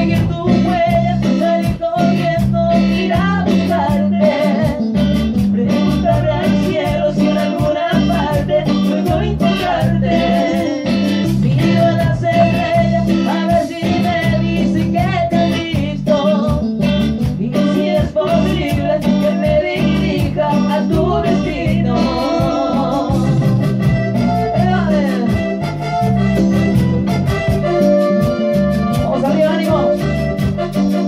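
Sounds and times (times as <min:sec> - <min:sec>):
person singing: 0:00.0 - 0:26.5, 0:27.6 - 0:31.0
electric guitar: 0:00.0 - 0:31.0
keyboards: 0:00.0 - 0:31.0
steady beat: 0:00.0 - 0:31.0.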